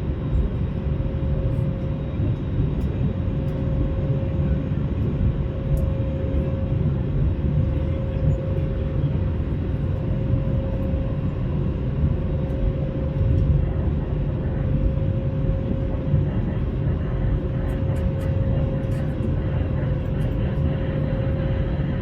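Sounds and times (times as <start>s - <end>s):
aircraft cabin engine rumble: 0.0s - 22.0s
constant hum: 0.0s - 22.0s.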